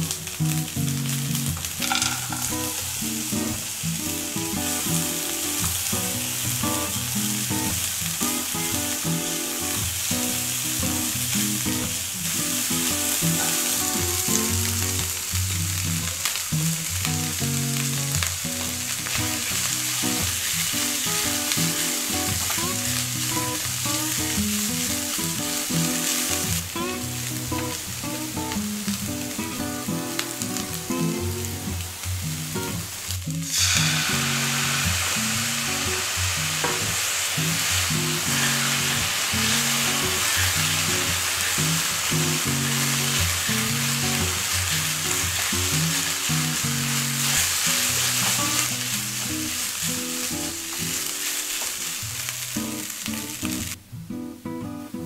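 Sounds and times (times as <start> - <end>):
vegetables and rice sizzling in oil: 0.0 - 53.8.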